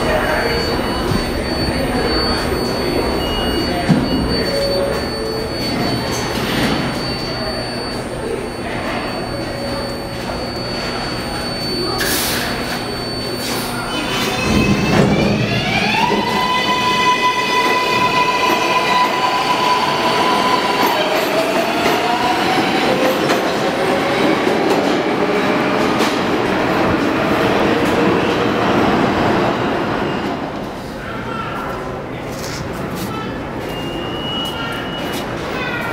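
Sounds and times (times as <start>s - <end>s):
subway train propulsion whine: 0.0s - 35.9s.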